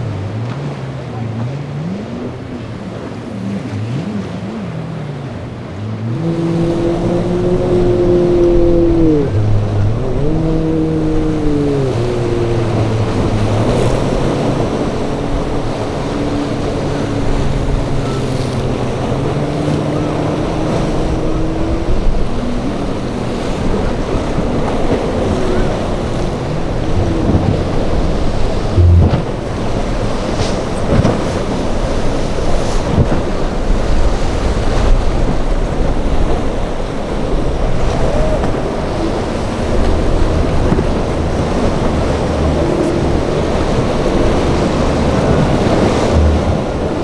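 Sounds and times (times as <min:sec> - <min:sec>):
boat engines running hard: 0:00.0 - 0:47.0
wind on microphone: 0:02.0 - 0:47.0
hull crashing through water: 0:05.9 - 0:47.0.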